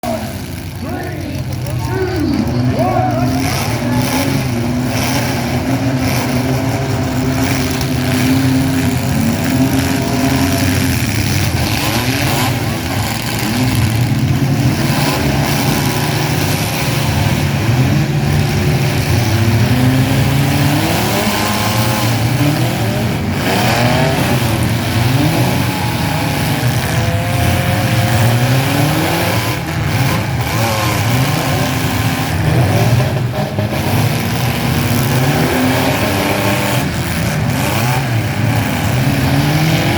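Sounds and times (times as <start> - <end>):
mini truck engines revving: 0.0 - 39.9.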